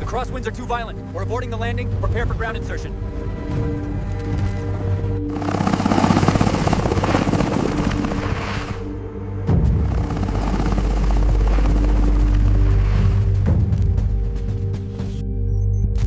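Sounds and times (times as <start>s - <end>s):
helicopter rotor chopping: 0.0s - 13.4s
deep low rumble: 0.0s - 14.8s
background music: 0.0s - 16.0s.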